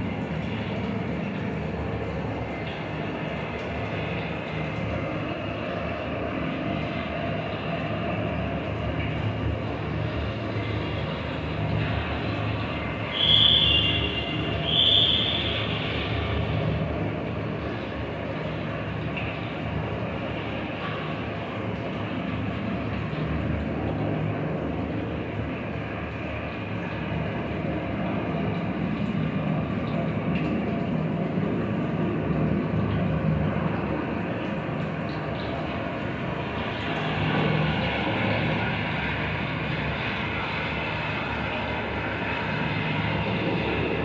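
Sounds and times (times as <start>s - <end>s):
steady rumbling noise: 0.0s - 44.0s.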